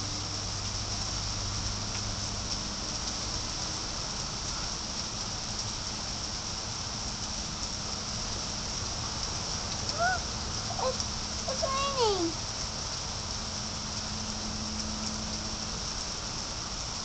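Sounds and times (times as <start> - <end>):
rain pattering on surfaces: 0.0 - 17.0.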